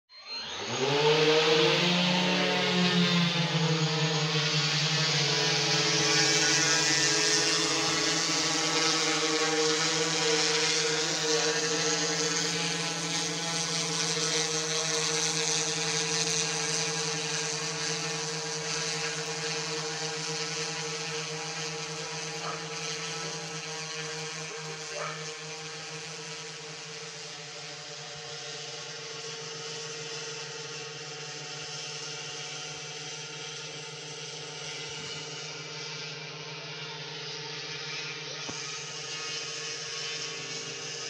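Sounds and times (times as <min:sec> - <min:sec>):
drone propeller buzz: 0:00.1 - 0:41.0.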